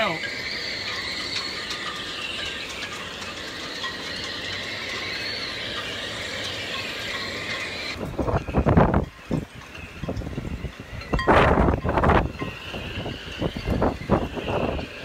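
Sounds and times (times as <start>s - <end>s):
rush of wind: 0.0s - 15.0s
wind whistling through rigging: 0.0s - 15.0s.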